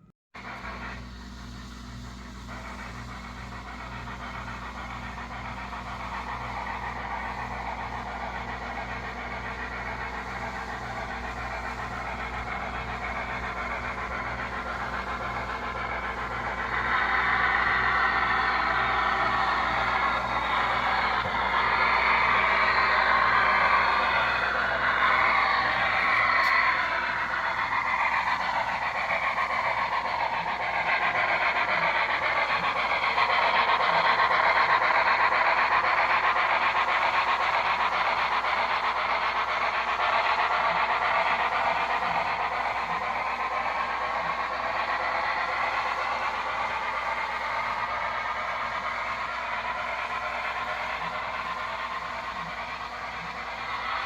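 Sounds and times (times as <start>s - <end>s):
model train wheels rattling: 2.5s - 54.0s.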